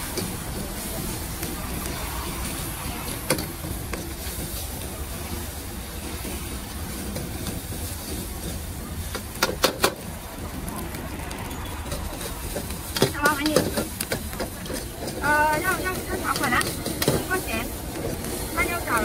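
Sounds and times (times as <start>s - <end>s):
gas wok burner rushing: 0.0s - 19.0s.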